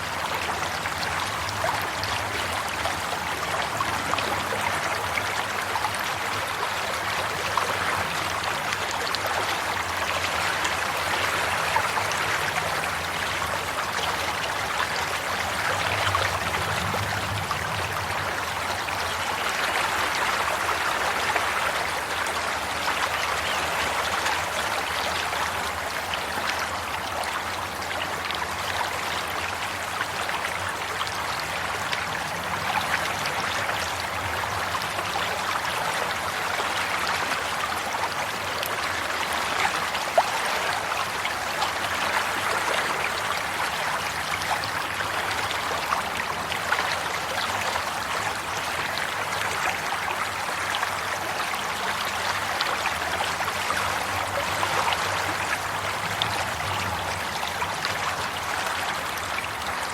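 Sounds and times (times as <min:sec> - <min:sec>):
stream babbling and trickling: 0:00.0 - 0:59.9.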